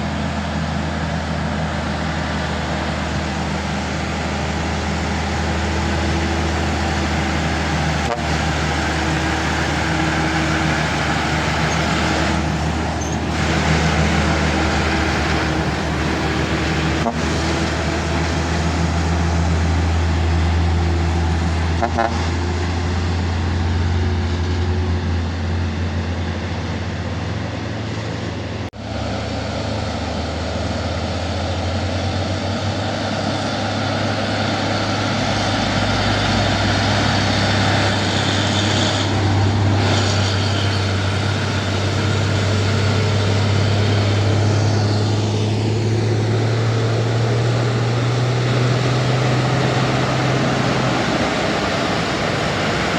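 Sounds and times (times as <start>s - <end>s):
road traffic noise: 0.0s - 52.9s
truck engine running: 0.0s - 52.9s.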